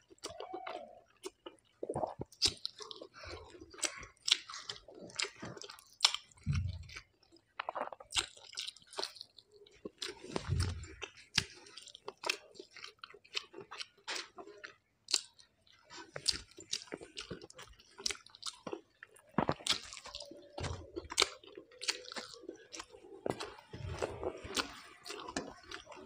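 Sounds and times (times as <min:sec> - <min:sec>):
close chewing mouth sounds: 0:00.0 - 0:26.0.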